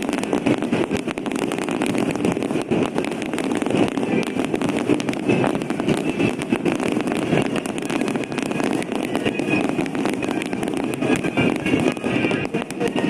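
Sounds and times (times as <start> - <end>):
fireworks crackling pops: 0.0 - 13.0.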